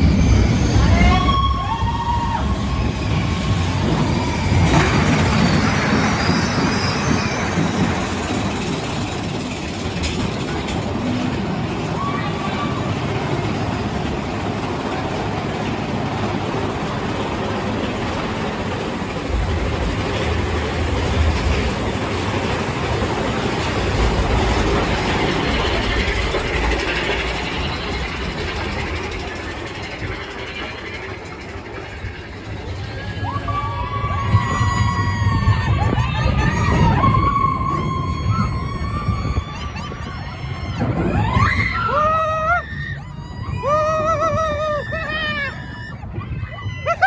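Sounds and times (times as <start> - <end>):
roller coaster wheels rumbling on track: 0.0 - 47.0.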